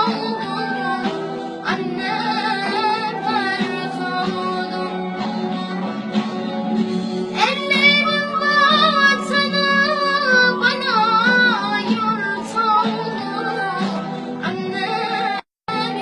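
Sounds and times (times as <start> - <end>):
girl singing ornamented melody: 0.0 - 6.7, 7.3 - 16.0
backing music: 0.0 - 16.0.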